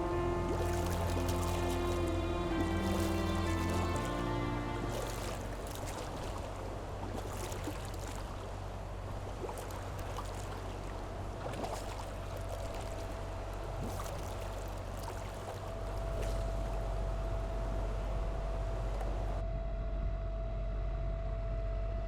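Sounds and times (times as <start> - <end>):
steady low drone: 0.0 - 9.4, 10.6 - 22.0
water rushing along a hull: 0.0 - 19.4.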